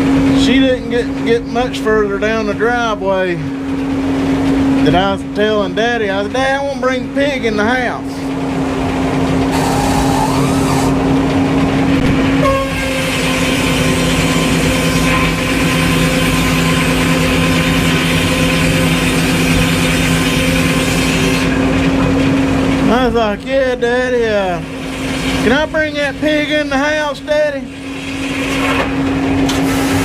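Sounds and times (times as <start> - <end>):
sawmill engine running: 0.0 - 30.0.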